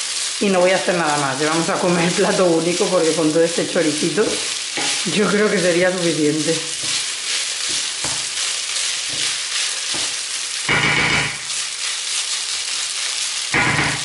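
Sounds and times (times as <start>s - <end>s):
food sizzling in a pan: 0.0s - 14.0s
wooden spoon stirring and scraping: 0.0s - 14.0s.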